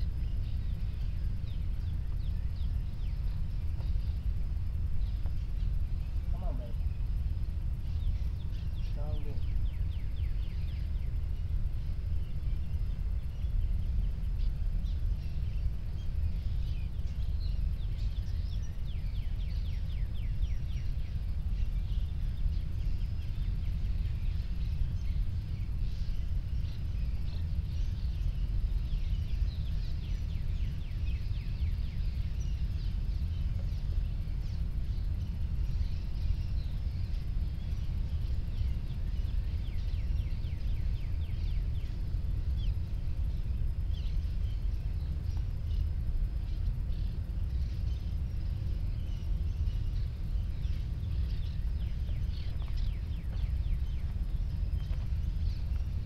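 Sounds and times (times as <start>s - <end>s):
low rumble: 0.0s - 56.0s.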